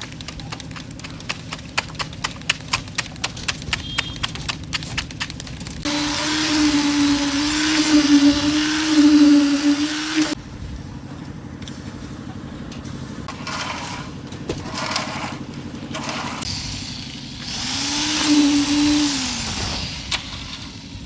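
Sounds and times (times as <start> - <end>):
small engine running and revving: 0.0 - 21.0.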